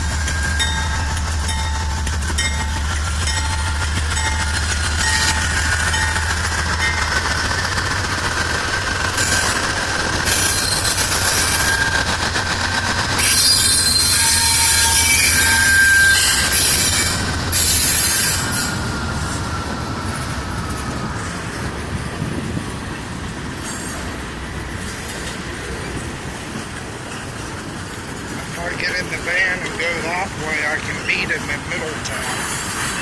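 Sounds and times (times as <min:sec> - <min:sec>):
train wheels squealing on rail: 0:00.0 - 0:07.8, 0:08.6 - 0:21.7, 0:23.4 - 0:26.0, 0:28.2 - 0:33.0
freight train rumble: 0:00.0 - 0:33.0.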